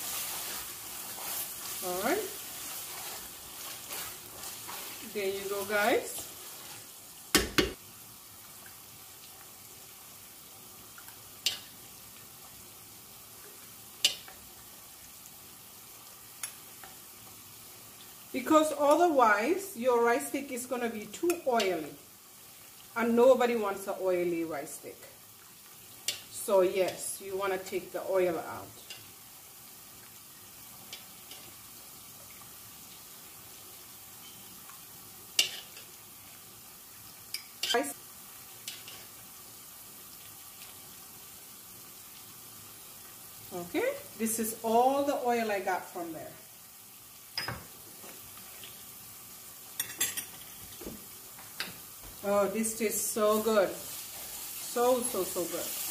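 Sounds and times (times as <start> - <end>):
sauce frying in a pot: 0.0 - 55.9.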